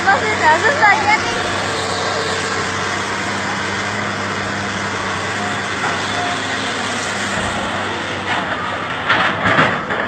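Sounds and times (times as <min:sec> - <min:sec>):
road and traffic noise: 0:00.0 - 0:10.0
truck engine humming: 0:00.0 - 0:10.0.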